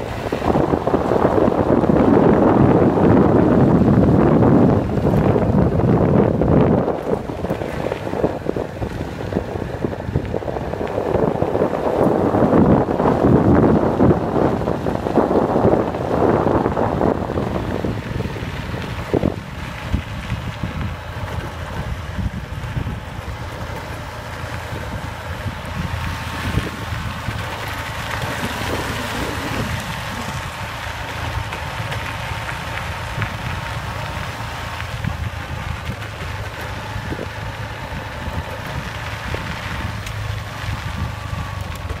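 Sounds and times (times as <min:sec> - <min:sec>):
crackles from rough road: 0:00.0 - 0:42.0
low rumble of riding: 0:00.0 - 0:42.0
wind buffeting microphone: 0:00.0 - 0:42.0.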